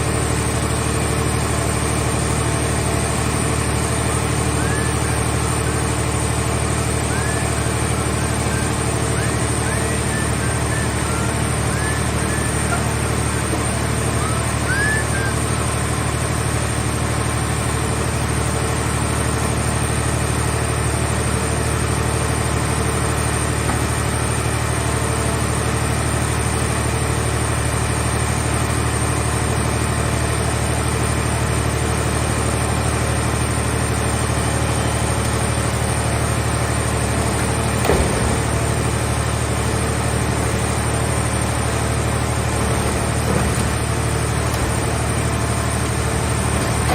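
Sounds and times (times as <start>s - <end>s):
baler engine droning: 0.0s - 46.9s.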